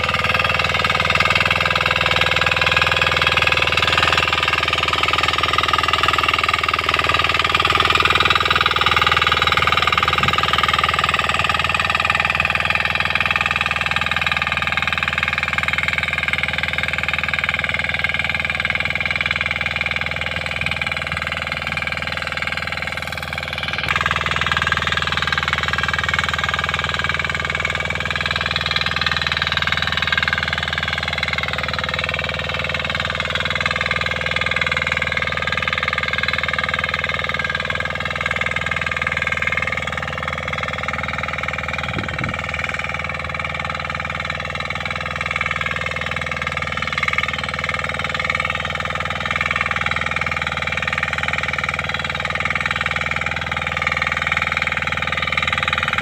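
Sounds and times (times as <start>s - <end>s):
power weeder engine running: 0.0s - 56.0s.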